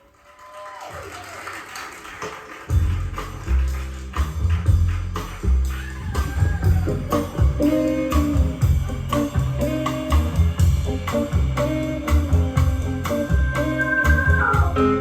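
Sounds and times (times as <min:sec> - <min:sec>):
blues-jazz band playing: 0:02.7 - 0:15.0.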